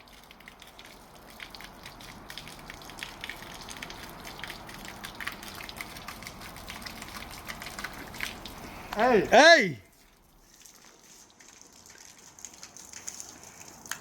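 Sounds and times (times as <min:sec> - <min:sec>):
water spraying from pipe: 0:00.0 - 0:14.0.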